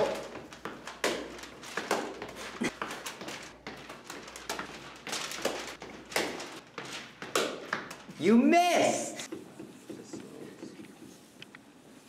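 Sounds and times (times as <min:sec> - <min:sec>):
footsteps on echoing stairs: 0:00.0 - 0:11.4.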